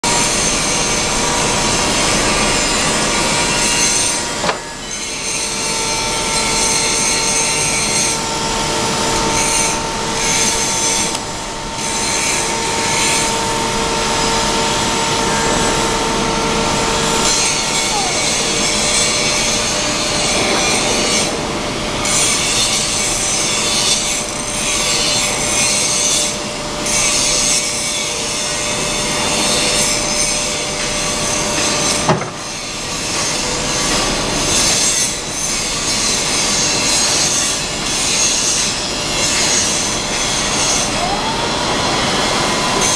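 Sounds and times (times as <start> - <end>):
hydraulic lift whine: 0.0 - 42.9.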